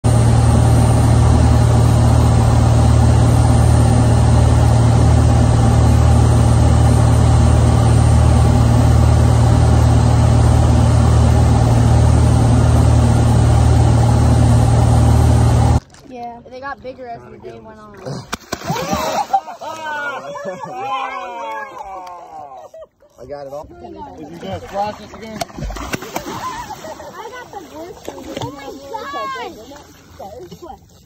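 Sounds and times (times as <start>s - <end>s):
boat engines droning: 0.0s - 18.0s, 23.9s - 31.0s
wind: 0.0s - 31.0s.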